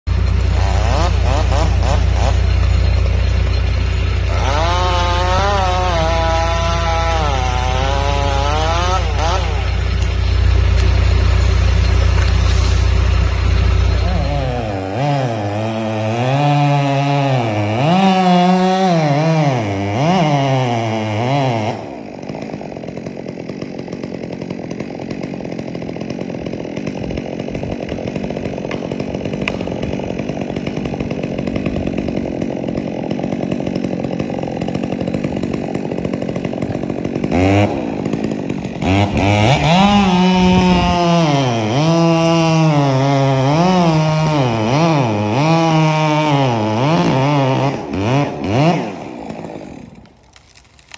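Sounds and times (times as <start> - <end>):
chainsaw revving: 0.1 - 50.9.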